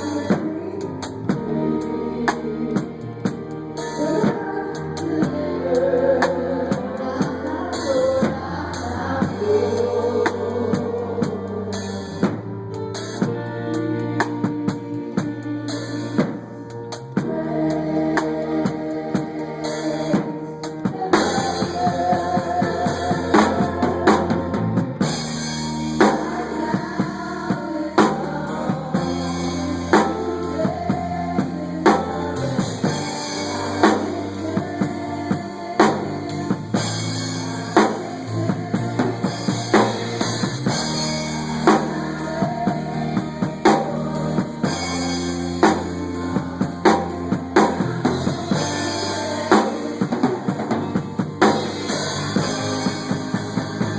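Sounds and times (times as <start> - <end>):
music with drum kit: 0.0 - 53.9
sustained bass line: 0.0 - 53.9.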